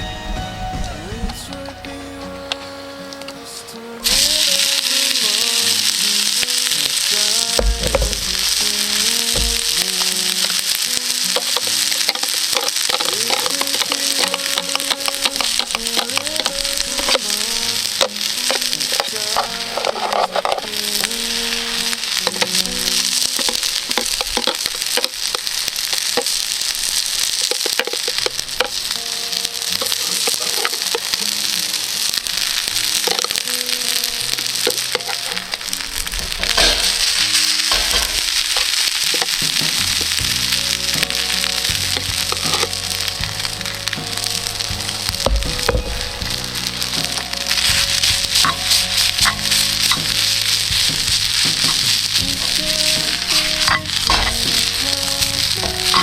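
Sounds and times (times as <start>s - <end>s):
background music: 0.0s - 25.3s, 27.4s - 56.0s
food sizzling in frying pan: 1.1s - 56.0s
stirring clicks and scrapes: 4.1s - 56.0s.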